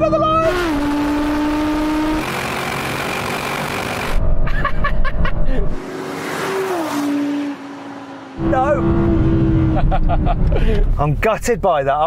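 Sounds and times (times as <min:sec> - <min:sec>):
car engines at full throttle: 0:00.0 - 0:11.3
wind and road noise: 0:00.0 - 0:12.0.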